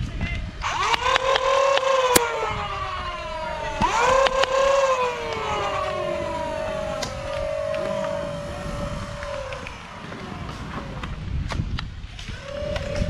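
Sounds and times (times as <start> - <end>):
dart blaster motors whining: 0.6 - 11.2.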